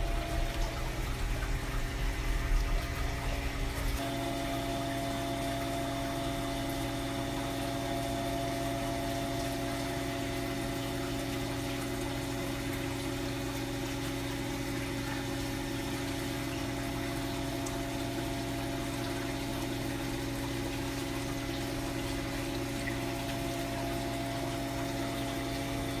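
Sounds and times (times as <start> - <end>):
aquarium pump humming: 0.0 - 26.0
moving water: 0.0 - 26.0.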